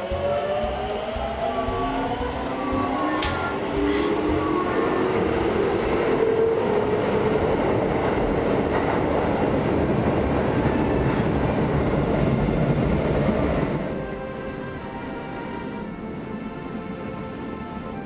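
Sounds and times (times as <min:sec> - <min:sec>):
fast train running on track: 0:00.0 - 0:18.0.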